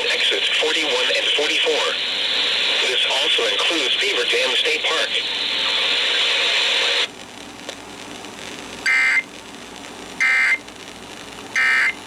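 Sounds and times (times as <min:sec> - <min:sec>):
loud radio hiss: 0:00.0 - 0:12.0.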